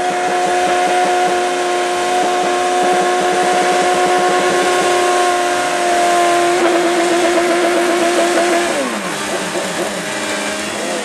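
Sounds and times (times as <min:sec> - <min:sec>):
motorcycle engine at high revs: 0:00.0 - 0:11.0
motorcycle engines revving: 0:00.0 - 0:11.0
tyre spinning on pavement: 0:00.0 - 0:11.0.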